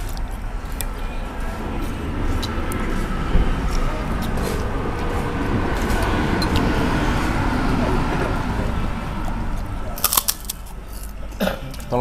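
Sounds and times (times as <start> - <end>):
road vehicles rumbling: 0.0 - 12.0.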